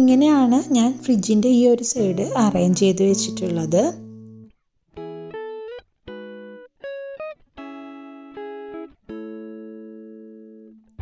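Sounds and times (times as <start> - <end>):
plucked guitar: 0.0 - 11.0.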